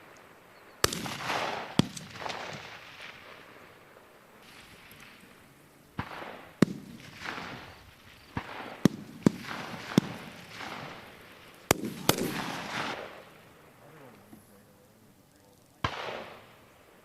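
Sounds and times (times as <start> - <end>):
rifle shots with rolling echo: 0.0 - 14.8, 15.4 - 17.0.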